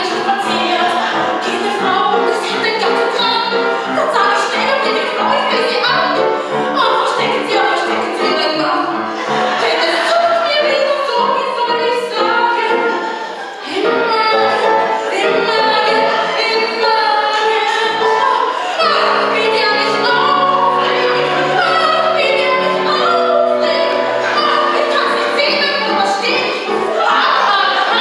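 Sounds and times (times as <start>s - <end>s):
piano accompaniment: 0.0s - 28.0s
woman singing: 0.0s - 28.0s.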